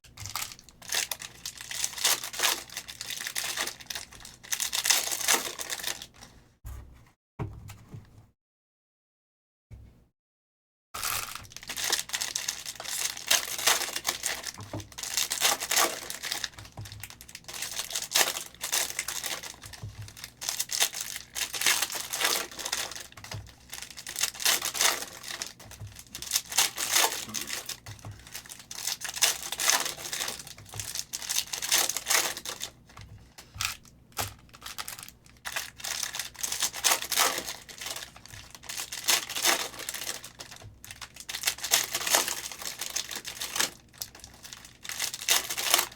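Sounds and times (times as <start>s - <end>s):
plastic and foil wrappers crinkling: 0.1s - 6.4s, 11.0s - 45.9s.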